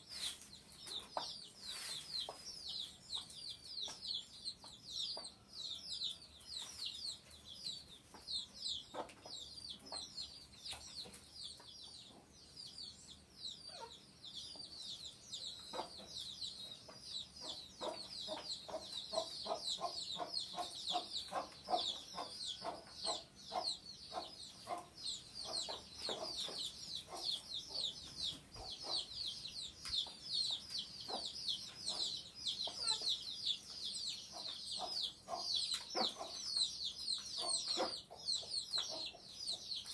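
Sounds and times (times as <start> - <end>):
chicks peeping: 0.0 - 39.9
chicken clucking: 0.1 - 39.9.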